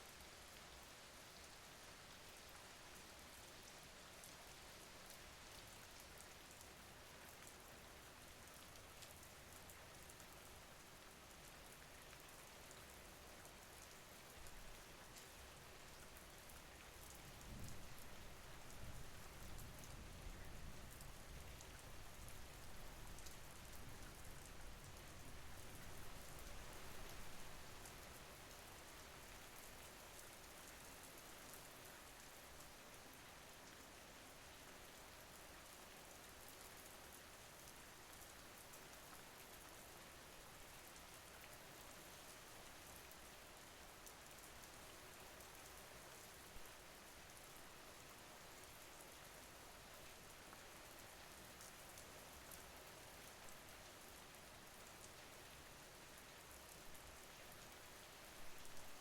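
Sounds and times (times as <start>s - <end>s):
faint rain falling: 0.0s - 59.0s.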